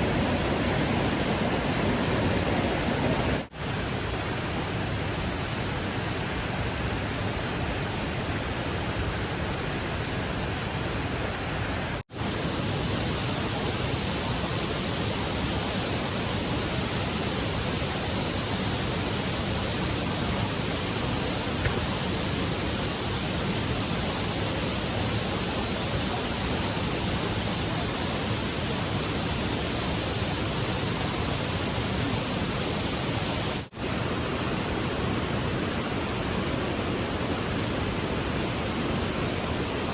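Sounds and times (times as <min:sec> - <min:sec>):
fast-flowing stream rushing: 0:00.0 - 0:39.9.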